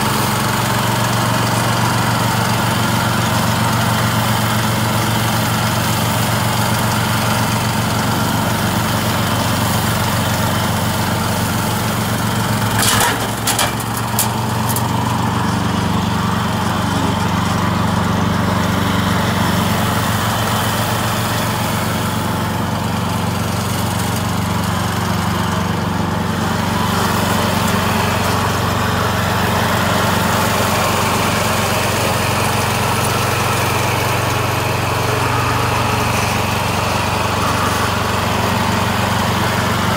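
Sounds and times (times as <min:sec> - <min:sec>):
mower engine cutting grass: 0:00.0 - 0:39.9.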